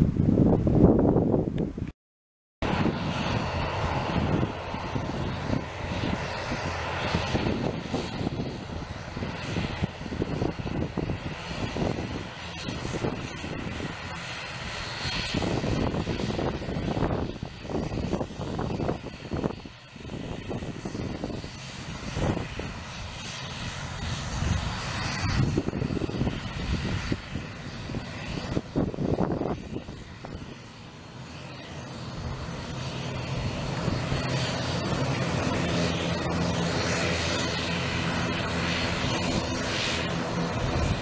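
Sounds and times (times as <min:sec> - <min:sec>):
turboprop engines droning: 0:02.6 - 0:41.0.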